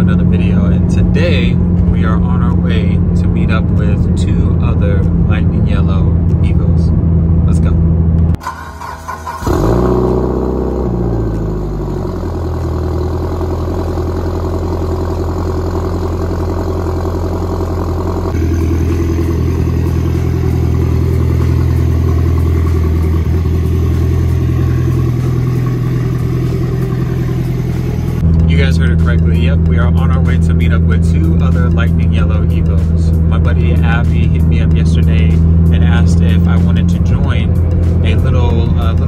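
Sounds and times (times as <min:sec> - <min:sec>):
car engine starting and idling: 0:00.0 - 0:39.0
loud engine and exhaust: 0:00.0 - 0:39.0.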